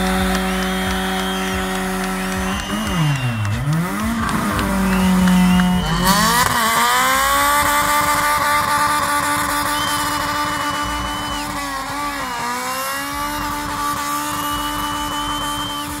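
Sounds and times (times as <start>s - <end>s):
car engine revving high: 0.0s - 16.0s.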